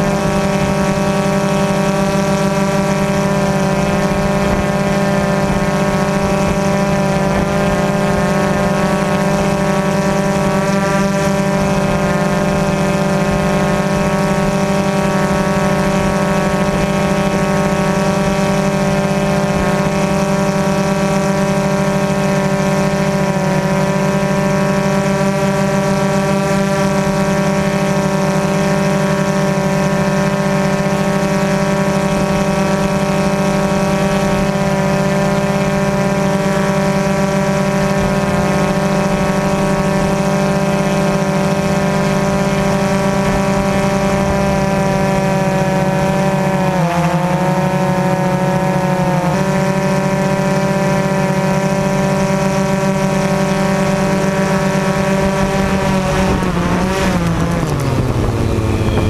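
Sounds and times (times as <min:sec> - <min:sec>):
drone motors humming: 0:00.0 - 0:59.0.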